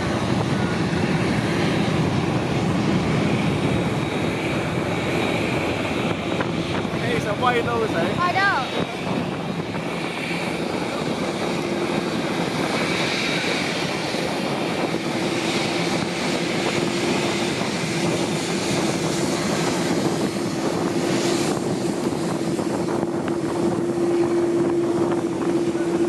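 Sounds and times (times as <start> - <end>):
high engine whine: 0.0 - 26.0
jet engines running: 0.0 - 26.0.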